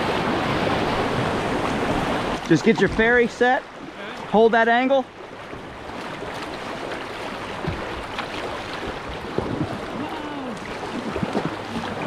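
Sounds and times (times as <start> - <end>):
whitewater river rushing: 0.0 - 12.0.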